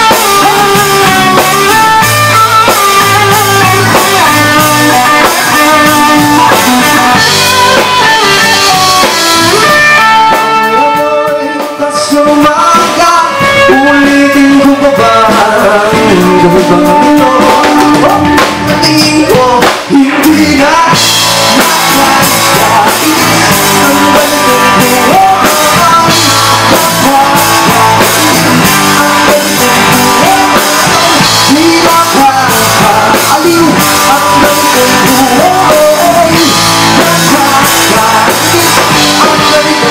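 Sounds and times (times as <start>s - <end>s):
bass guitar: 0.0s - 39.9s
drum kit: 0.0s - 39.9s
electric guitars: 0.0s - 39.9s
person singing: 0.0s - 39.9s.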